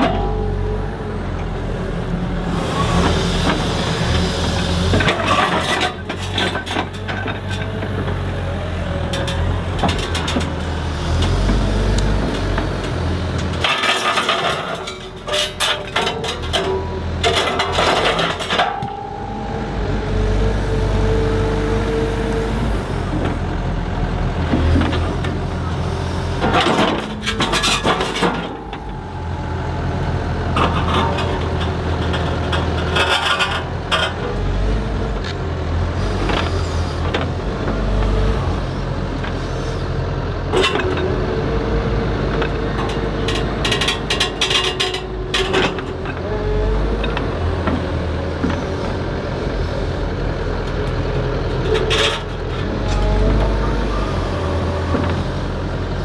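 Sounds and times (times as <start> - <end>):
excavator running: 0.0 - 56.0.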